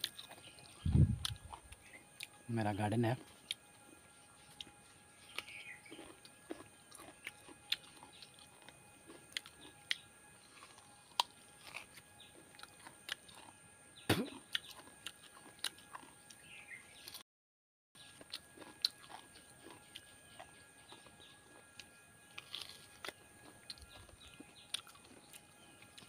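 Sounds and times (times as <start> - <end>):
person chewing crunchy coconut: 0.0 - 17.2, 18.0 - 26.0.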